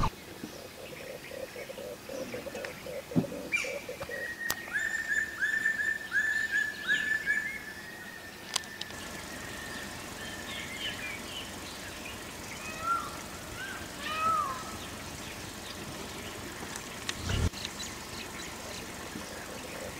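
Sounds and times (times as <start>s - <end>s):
birds whistling and chirping: 0.0s - 19.9s.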